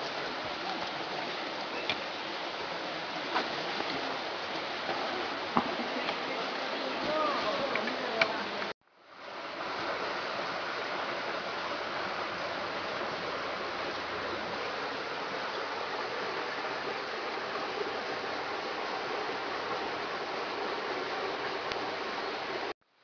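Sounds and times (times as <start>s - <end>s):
stream and waterfall rushing: 0.0s - 22.7s.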